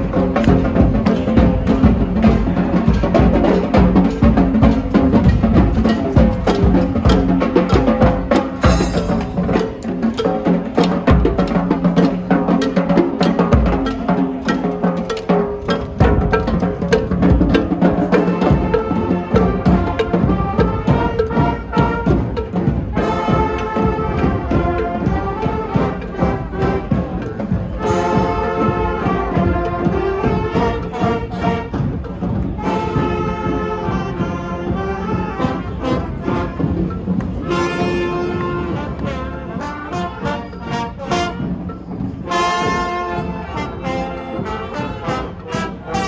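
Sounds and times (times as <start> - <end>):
snare drums and percussion: 0.0 - 46.0
trumpets and trombones: 0.0 - 46.0.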